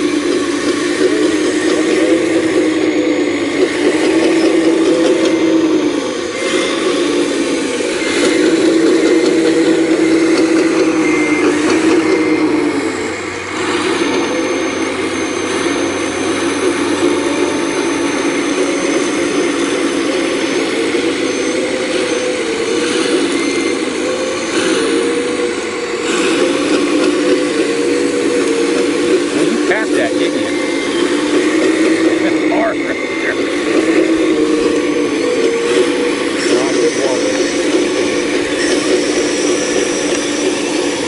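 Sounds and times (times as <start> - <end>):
excavator engine under load: 0.0 - 41.0.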